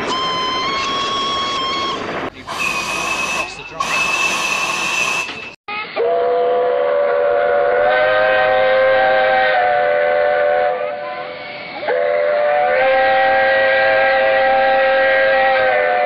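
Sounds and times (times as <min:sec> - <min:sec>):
steam locomotive whistle blasts: 0:00.0 - 0:16.0.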